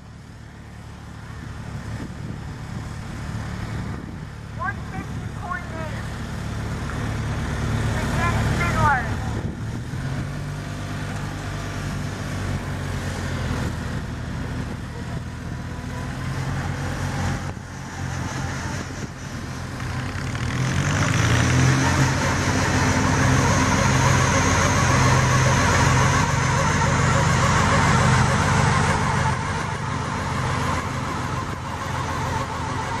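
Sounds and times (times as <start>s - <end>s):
garden tractor engine running: 0.0s - 33.0s.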